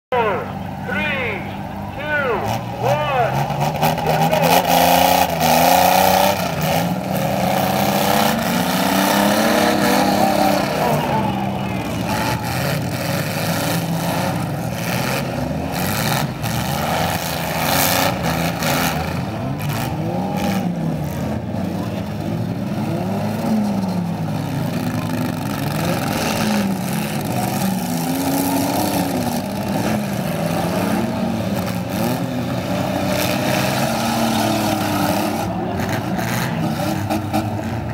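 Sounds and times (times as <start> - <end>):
car engines revving: 0.1 - 37.9.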